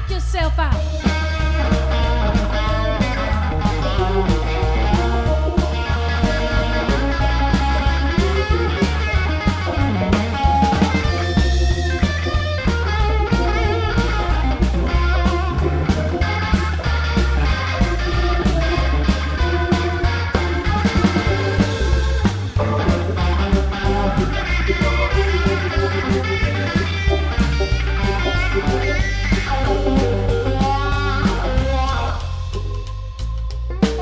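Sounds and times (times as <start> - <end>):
lead guitar: 0.0 - 34.0
rock band instrumental: 0.0 - 34.0.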